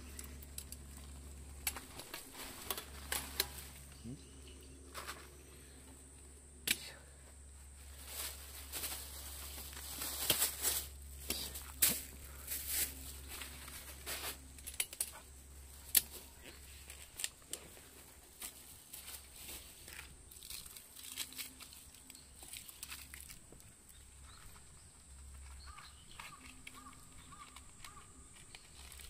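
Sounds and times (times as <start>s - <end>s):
rustling and crinkling: 0.0s - 6.4s, 7.2s - 29.0s.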